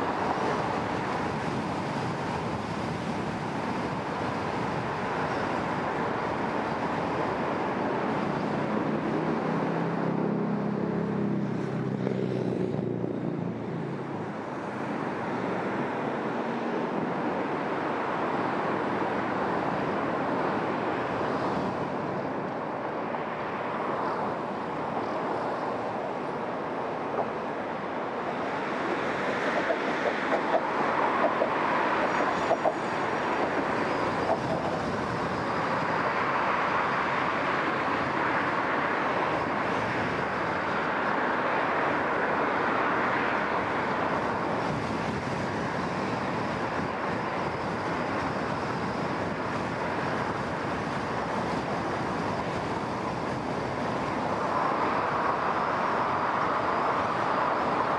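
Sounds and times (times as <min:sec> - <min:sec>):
tyre and road noise: 0:00.0 - 0:57.9
wind rush: 0:00.0 - 0:57.9.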